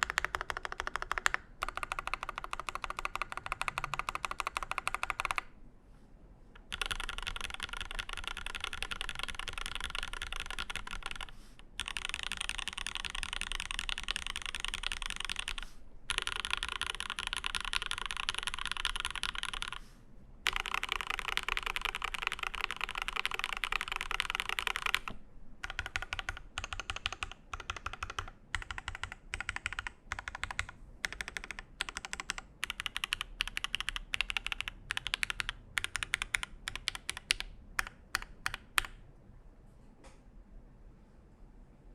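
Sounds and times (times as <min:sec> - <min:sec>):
mechanical keyboard typing: 0:00.0 - 0:05.5, 0:06.6 - 0:19.8, 0:20.4 - 0:39.0.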